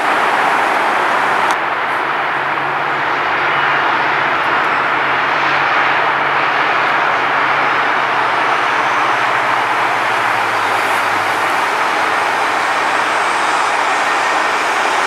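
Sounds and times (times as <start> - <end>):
diesel locomotive engine hum: 0.0 - 15.0
steady rushing noise: 0.0 - 15.0.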